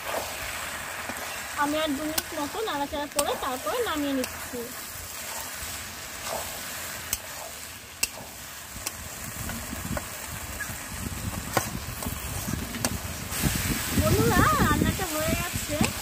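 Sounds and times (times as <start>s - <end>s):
food sizzling in pan: 0.0s - 16.0s.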